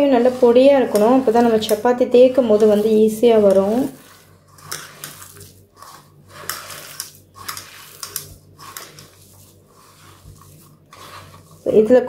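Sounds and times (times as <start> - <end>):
hands squelching mash in bowl: 0.0 - 12.0.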